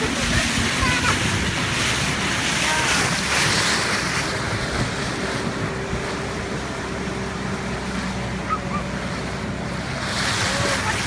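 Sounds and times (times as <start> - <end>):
motorboat engine hum: 0.0 - 11.0
wind and water rushing: 0.0 - 11.0.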